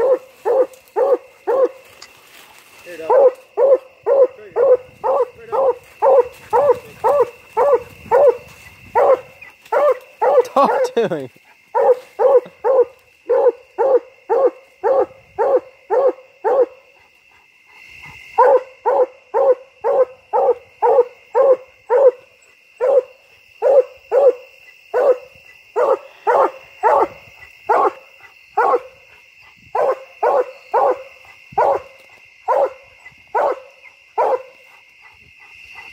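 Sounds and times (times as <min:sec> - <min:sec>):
hound barking: 0:00.0 - 0:01.9, 0:02.9 - 0:11.0, 0:11.7 - 0:17.0, 0:18.3 - 0:35.9.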